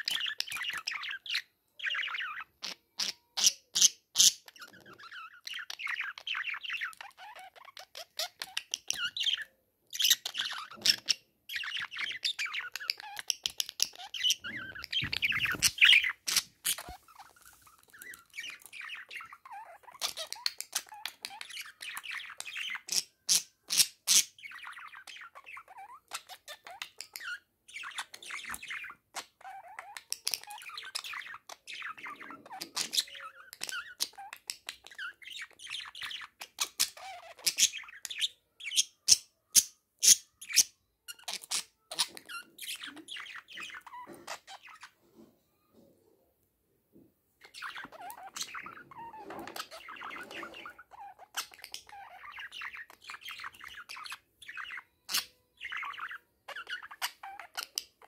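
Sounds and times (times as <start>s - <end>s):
budgerigars chattering and warbling: 0.0s - 39.2s, 40.0s - 44.9s, 47.4s - 57.9s.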